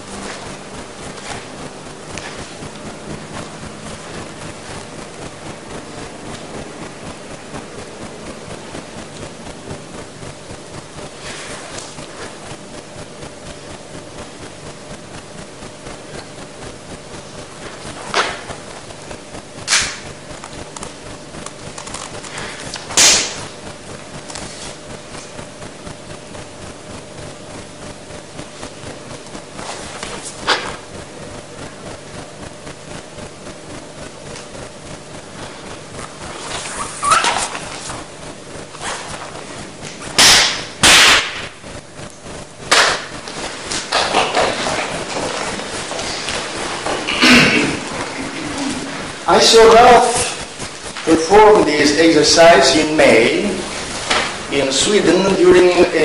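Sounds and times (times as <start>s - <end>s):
room noise: 0.0s - 56.0s.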